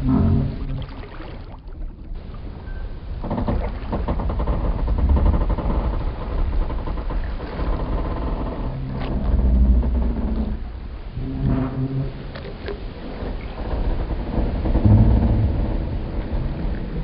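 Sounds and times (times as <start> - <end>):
wooden timbers creaking: 0.0 - 0.7, 2.2 - 17.0
water sloshing against pilings: 0.0 - 17.0.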